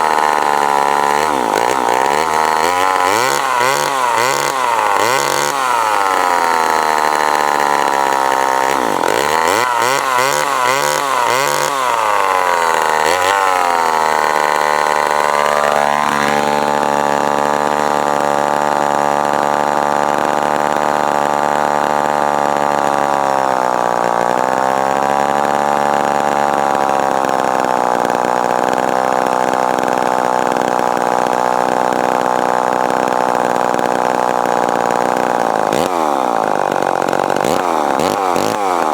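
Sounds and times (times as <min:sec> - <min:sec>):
chainsaw engine revving and idling: 0:00.0 - 0:38.9.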